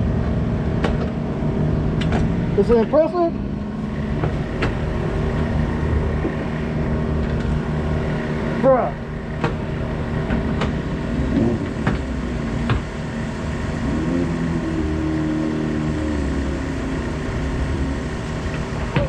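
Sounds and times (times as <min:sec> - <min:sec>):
motorcycle engine running: 0:00.0 - 0:19.0
second engine tone: 0:00.0 - 0:19.0.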